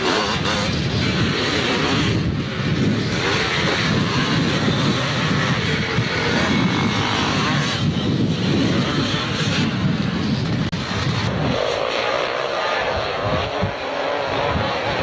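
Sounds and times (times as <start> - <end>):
motorcycles racing past: 0.0 - 15.0.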